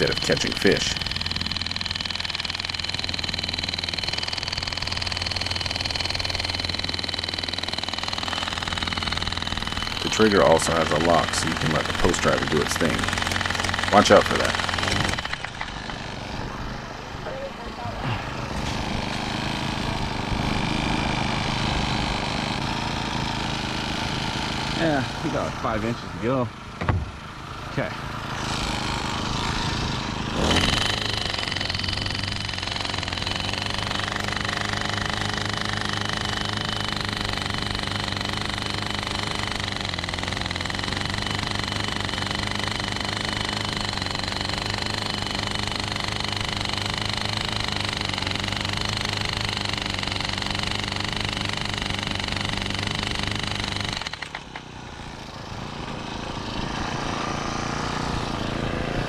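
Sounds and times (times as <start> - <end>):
post driver engine hammering: 0.0 - 59.0.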